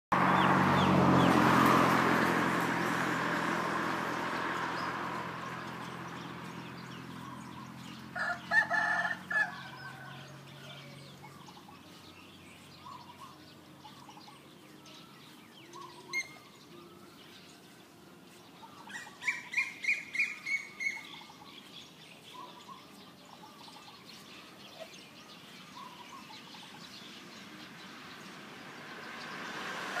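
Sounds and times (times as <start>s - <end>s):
birds calling: 0.2s - 30.0s.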